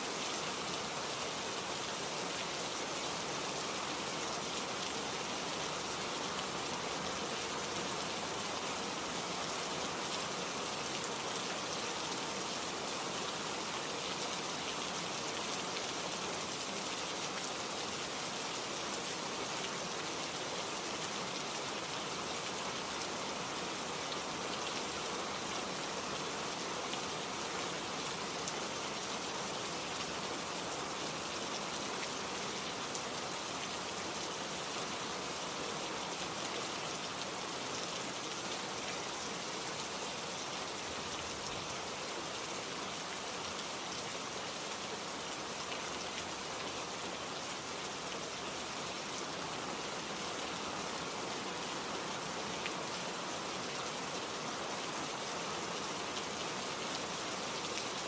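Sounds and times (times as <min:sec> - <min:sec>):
rain pattering on a surface: 0:00.1 - 0:58.0.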